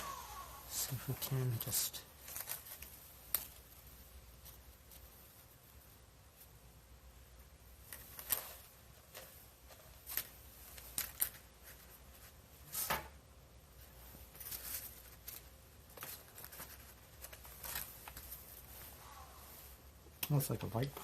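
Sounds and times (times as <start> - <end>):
parts rustling and scraping: 0.0 - 6.5, 7.8 - 13.2, 13.8 - 21.0.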